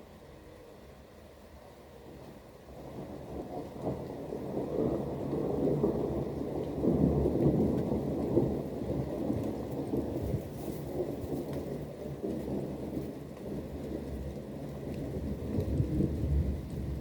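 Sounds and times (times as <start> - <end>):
steady rain: 0.0 - 17.0
thunder rolling: 2.9 - 17.0.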